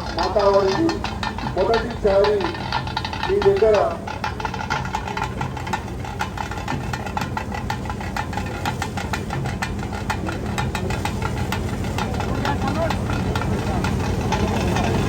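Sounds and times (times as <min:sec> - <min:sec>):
engine idling with clatter: 0:00.0 - 0:15.0.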